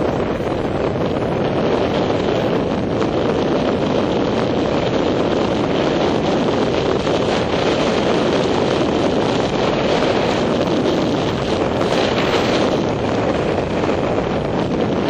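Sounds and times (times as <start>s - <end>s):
vehicle running noise: 0.0s - 15.0s
wind rushing on microphone: 0.0s - 15.0s.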